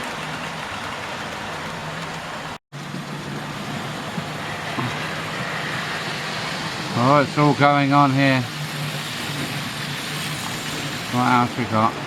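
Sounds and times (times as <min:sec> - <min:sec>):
model train wheels rumbling on rail: 0:00.0 - 0:12.0.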